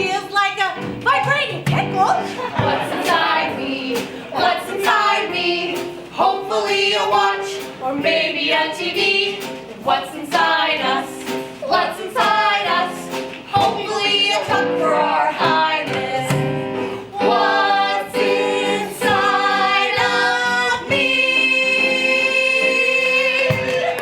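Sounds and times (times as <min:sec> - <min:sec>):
voices singing a chorus: 0:02.4 - 0:23.9.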